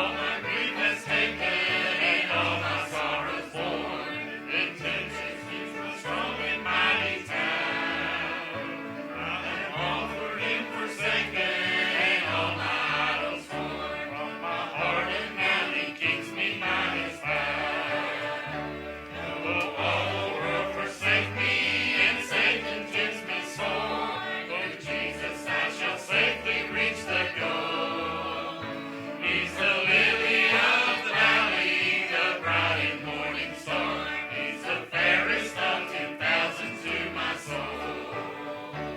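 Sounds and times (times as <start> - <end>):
church choir singing gospel: 0.0 - 38.9
instrumental accompaniment: 0.0 - 38.9.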